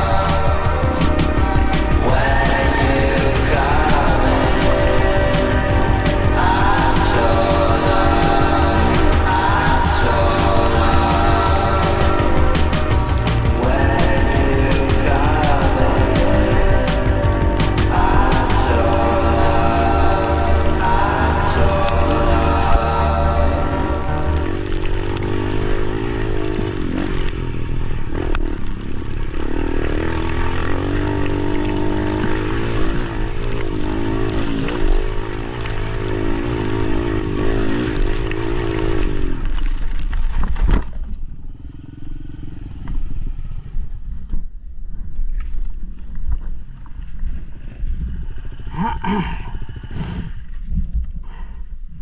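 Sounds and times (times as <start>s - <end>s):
motorcycle engine revving: 0.0s - 40.1s, 41.4s - 44.0s.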